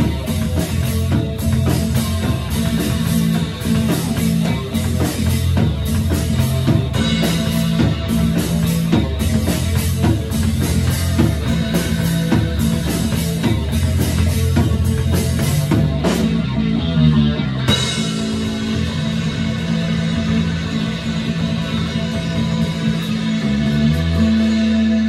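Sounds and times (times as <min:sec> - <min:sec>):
drum kit beat: 0:00.0 - 0:25.0
electric guitars: 0:00.0 - 0:25.0.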